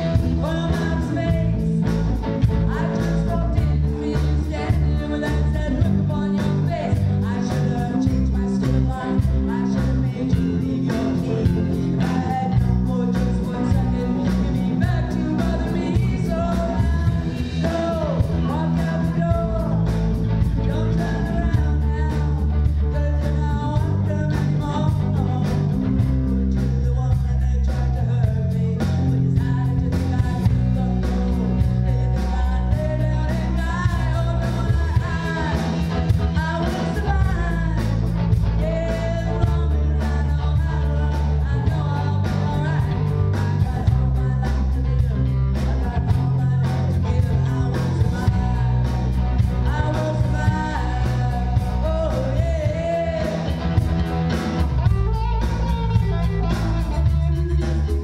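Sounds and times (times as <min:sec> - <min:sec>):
bass guitar: 0:00.0 - 0:58.0
drum kit: 0:00.0 - 0:58.0
electric guitar: 0:00.0 - 0:58.0
woman singing lead: 0:00.0 - 0:58.0.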